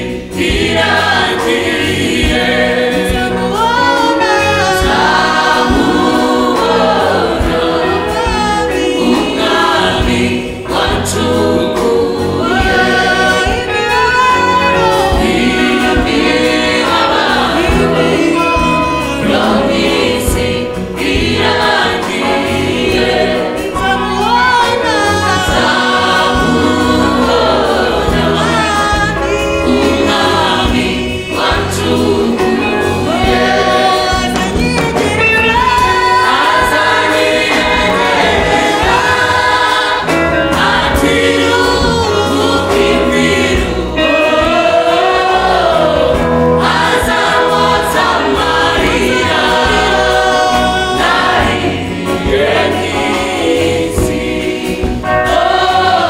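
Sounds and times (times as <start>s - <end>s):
choir singing gospel: 0.0s - 56.0s
instrumental backing with bass: 0.0s - 56.0s.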